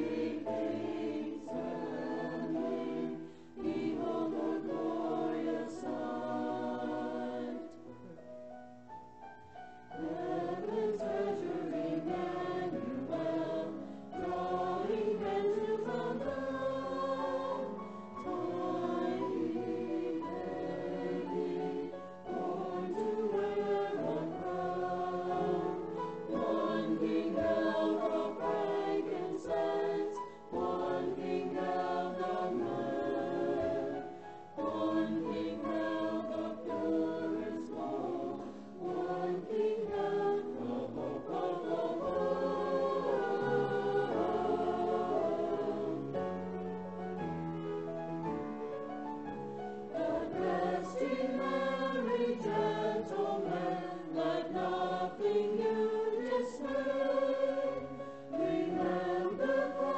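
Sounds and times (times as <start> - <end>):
mixed choir singing: 0.0 - 8.0, 9.9 - 46.5, 49.9 - 59.9.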